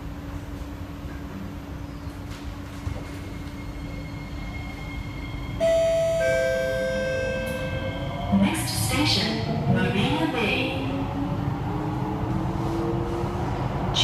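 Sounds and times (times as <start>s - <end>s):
metro train rumble: 0.0s - 14.0s.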